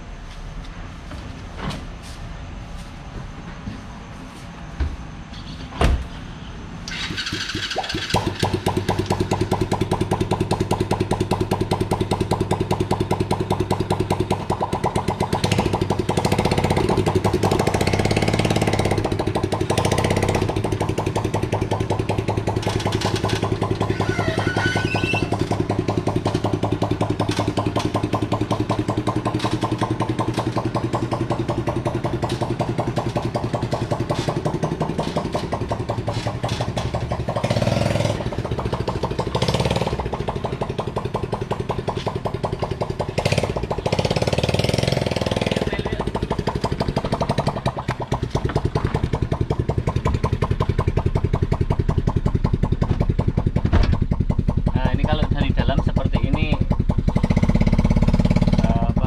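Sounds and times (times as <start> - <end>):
small car engine revving: 6.9 - 59.0.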